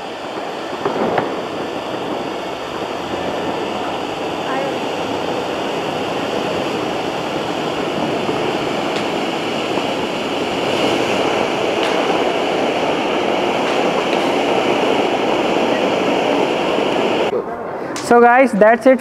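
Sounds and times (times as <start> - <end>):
faint crackles: 0.0 - 17.3
firework fountain hissing: 0.0 - 17.3.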